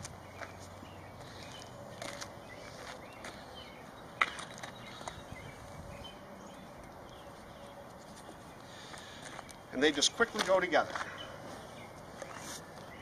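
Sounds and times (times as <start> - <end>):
footsteps on concrete: 0.0 - 5.7, 6.5 - 13.0
outdoor background noise: 0.0 - 13.0.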